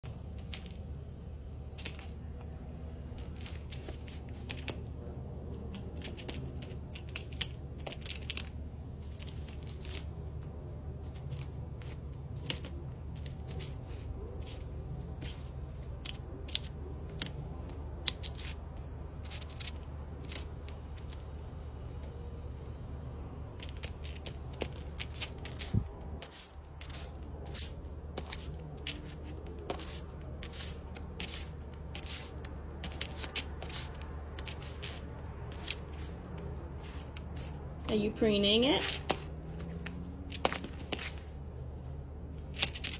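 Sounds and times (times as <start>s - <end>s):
steady low hum: 0.0s - 42.9s
scratchy rustles: 0.2s - 22.3s, 23.5s - 42.9s
crow pecking and tearing husk: 0.2s - 22.7s, 23.5s - 37.9s, 38.8s - 42.9s.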